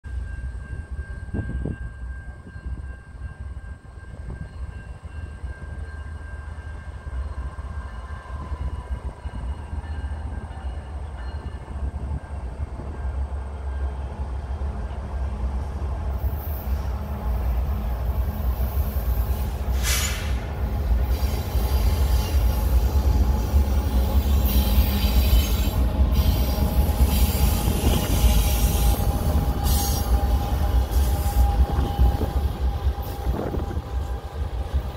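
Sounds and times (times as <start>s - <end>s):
freight train rumble: 0.0s - 34.9s.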